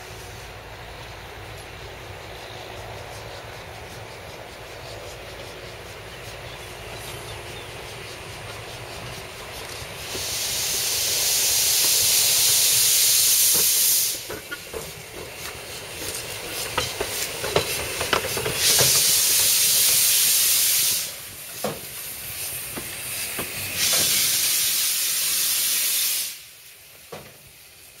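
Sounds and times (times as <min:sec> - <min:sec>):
steam hissing bursts: 0:02.3 - 0:28.0.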